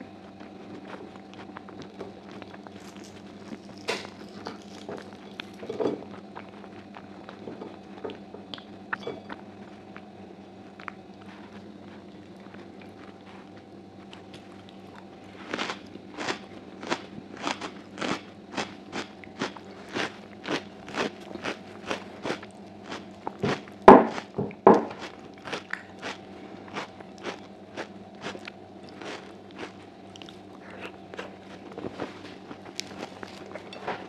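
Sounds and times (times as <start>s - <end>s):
crunchy chewing: 0.0s - 34.0s
low steady hum: 0.0s - 34.0s.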